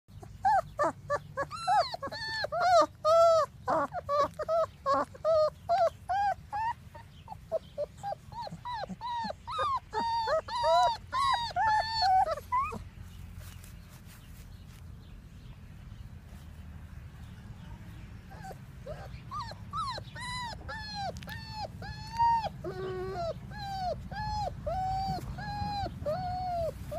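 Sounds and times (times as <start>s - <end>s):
puppies whimpering: 0.1s - 13.8s, 18.2s - 26.9s.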